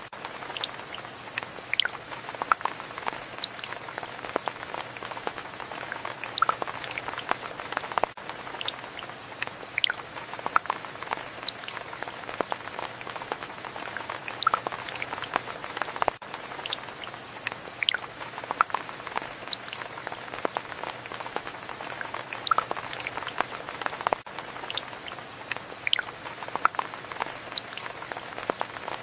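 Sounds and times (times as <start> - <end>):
steady rain hiss: 0.0 - 29.0
raindrops plinking on a surface: 0.1 - 29.0.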